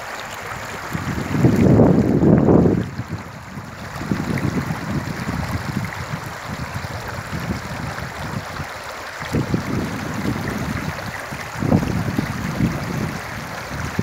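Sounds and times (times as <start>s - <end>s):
river water babbling over stones: 0.0s - 14.0s
wind buffeting microphone: 0.6s - 14.0s.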